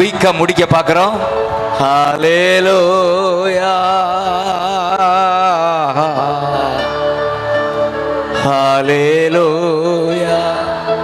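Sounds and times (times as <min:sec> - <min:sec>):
held instrumental chords: 0:00.0 - 0:11.0
person singing worship song: 0:00.0 - 0:11.0.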